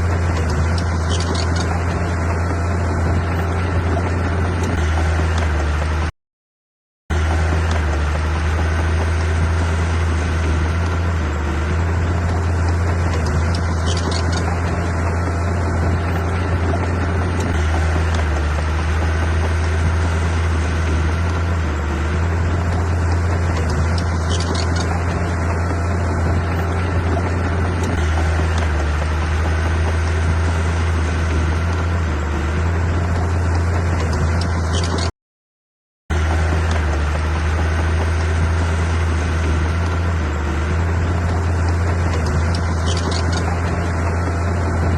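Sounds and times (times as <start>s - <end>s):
heavy machine engine droning: 0.0s - 6.1s, 7.1s - 35.1s, 36.1s - 44.9s.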